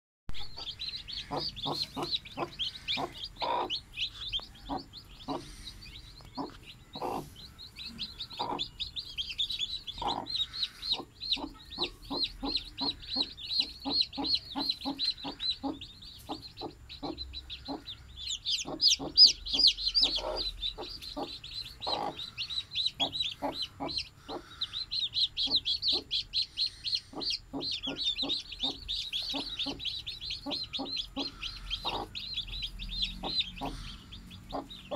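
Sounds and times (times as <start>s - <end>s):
chicks peeping shrilly: 0.3s - 34.9s
hen clucking: 0.3s - 34.9s.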